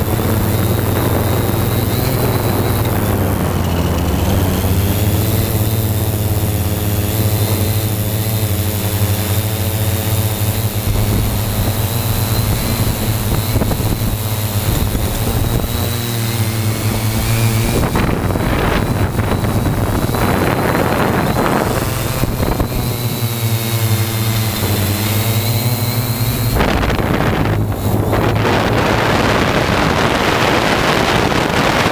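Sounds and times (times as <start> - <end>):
drone motors and propellers droning: 0.0 - 31.9
high motor whine: 0.0 - 31.9
wind noise on microphone: 0.0 - 31.9.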